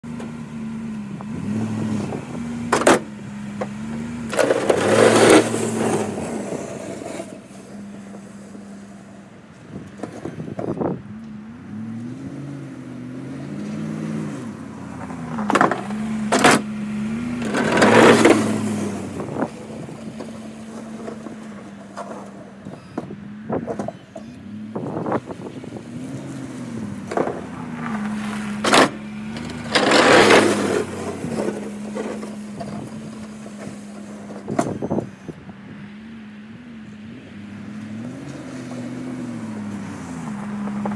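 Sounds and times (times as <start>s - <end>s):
rushing bursts of snow plowing: 0.0s - 10.6s, 11.5s - 40.9s
pickup truck engine: 0.0s - 40.9s.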